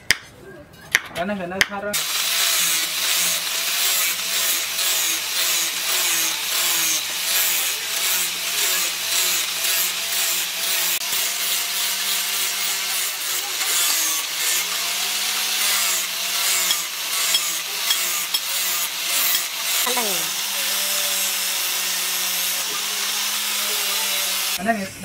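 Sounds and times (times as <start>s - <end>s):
angle grinder humming: 2.0s - 24.6s
wood rasping on sanding disc: 2.0s - 24.6s.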